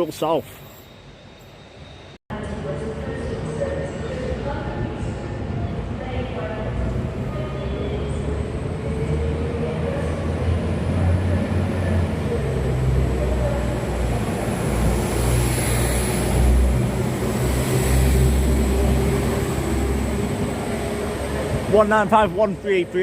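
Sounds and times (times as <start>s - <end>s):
train engine rumble: 0.0s - 23.0s.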